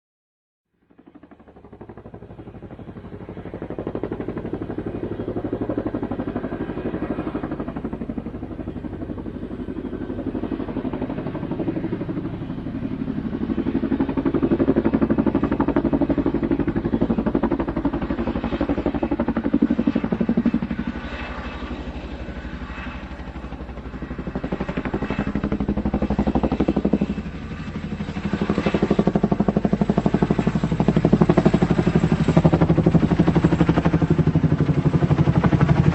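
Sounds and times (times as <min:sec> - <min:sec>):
helicopter engine drone: 0:00.8 - 0:35.9
helicopter rotor chopping: 0:00.9 - 0:35.9.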